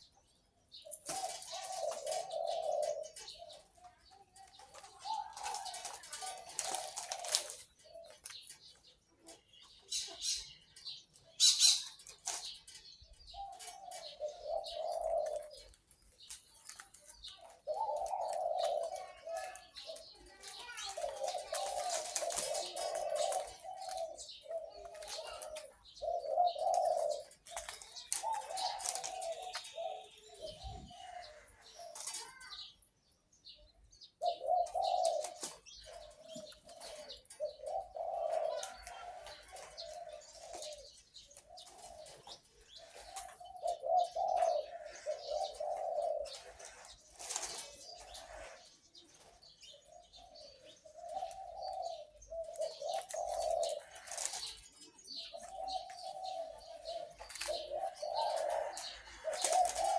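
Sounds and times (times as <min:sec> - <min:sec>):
dove cooing: 0:00.0 - 0:32.7, 0:34.1 - 0:59.9
birds chirping: 0:00.0 - 0:59.9.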